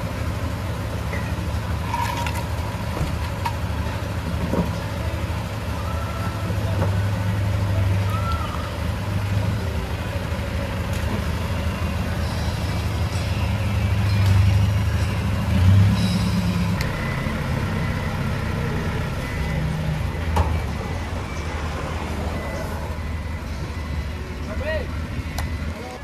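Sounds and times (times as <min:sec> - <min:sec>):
truck engines idling: 0:00.0 - 0:26.0.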